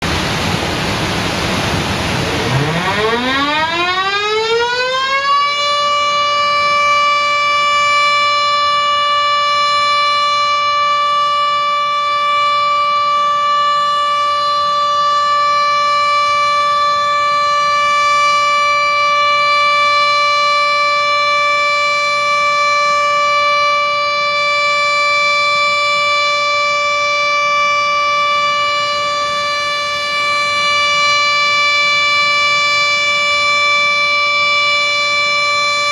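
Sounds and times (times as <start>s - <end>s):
warning siren winding up: 2.2s - 35.9s.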